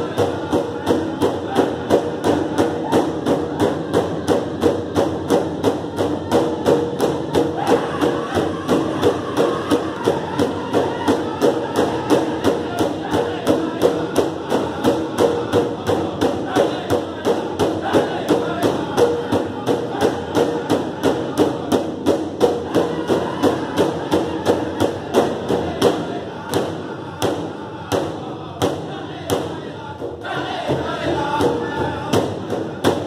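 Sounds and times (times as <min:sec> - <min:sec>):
drummers beating big drum: 0:00.0 - 0:33.0
group singing: 0:00.0 - 0:33.0.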